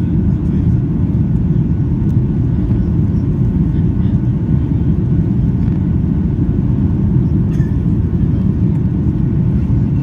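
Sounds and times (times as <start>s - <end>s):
airliner engines rumbling in cabin: 0.0s - 10.0s.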